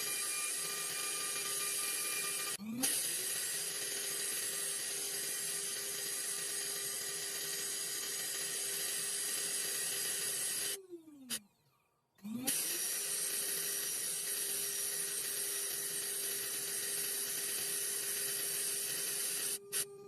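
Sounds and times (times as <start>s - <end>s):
electric motor tool whirring: 0.0s - 11.4s, 12.2s - 20.0s.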